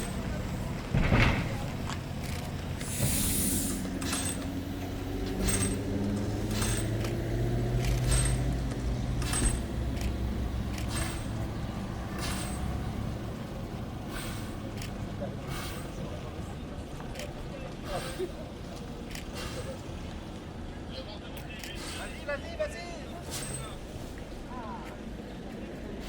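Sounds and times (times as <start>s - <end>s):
metallic clack of train wheels: 0.0s - 20.2s, 21.4s - 22.5s, 23.2s - 25.0s
train engine drone: 0.0s - 26.0s.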